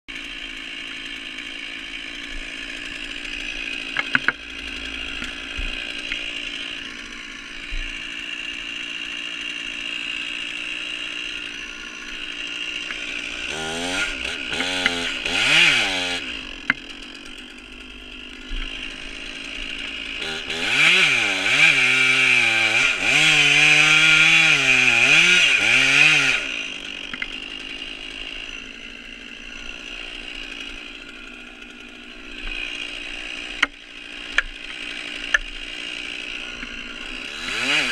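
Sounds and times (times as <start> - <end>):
chainsaw idling and revving: 0.1 - 37.9.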